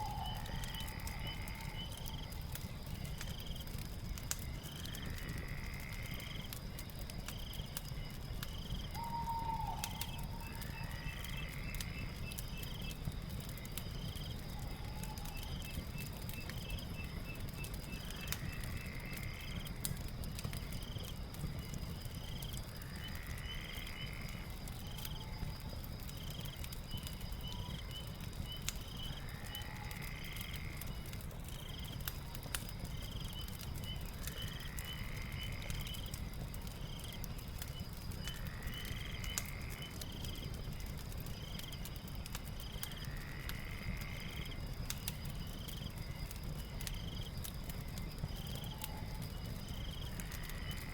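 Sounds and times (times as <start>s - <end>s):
fire crackling and popping: 0.0s - 50.9s
insects chirping: 0.0s - 50.9s.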